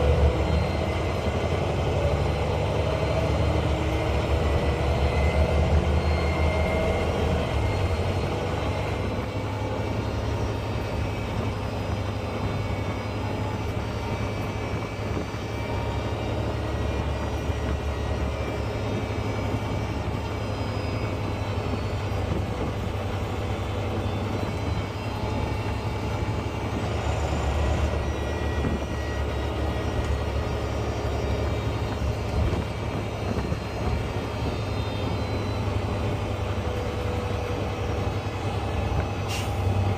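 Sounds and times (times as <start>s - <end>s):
bus diesel engine droning: 0.0s - 39.9s
faint turbo whistle: 0.0s - 39.9s.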